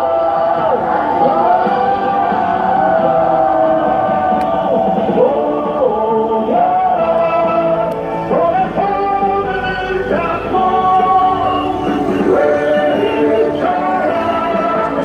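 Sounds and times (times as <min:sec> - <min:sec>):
person singing sliding long notes: 0:00.0 - 0:15.0.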